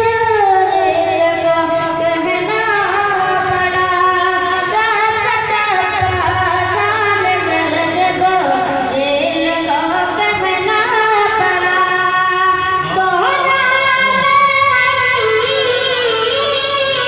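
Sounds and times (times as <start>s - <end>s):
boy singing: 0.0s - 17.0s.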